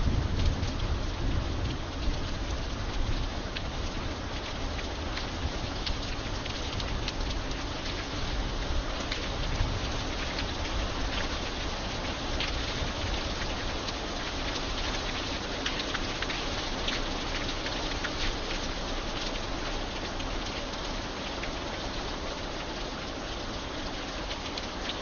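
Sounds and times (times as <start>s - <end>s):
light rain hissing: 0.0s - 25.0s
raindrops ticking: 0.0s - 25.0s.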